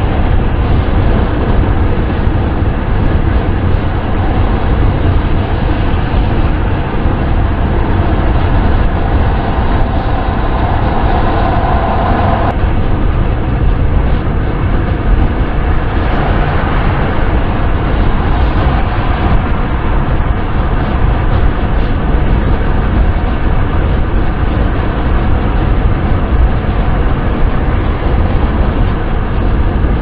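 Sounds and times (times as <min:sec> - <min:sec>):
car road and wind noise: 0:00.0 - 0:30.0
mid-pitched drone: 0:00.0 - 0:30.0.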